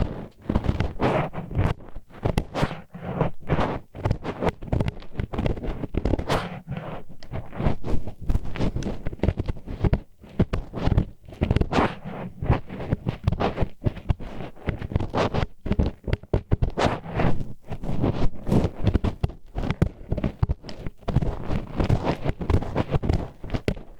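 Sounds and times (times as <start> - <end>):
chopsticks scraping microphone: 0.0 - 23.9.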